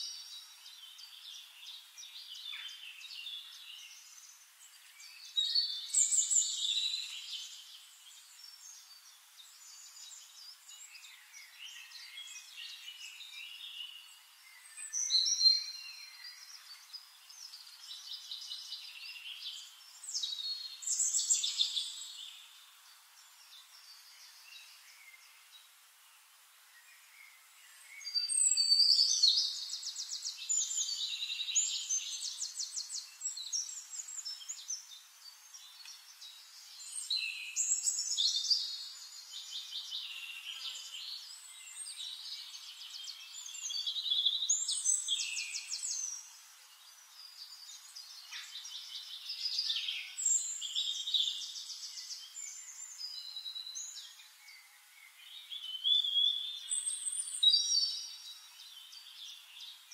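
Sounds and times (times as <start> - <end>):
songbird trilling and chirping: 0.0 - 25.3, 27.6 - 59.9.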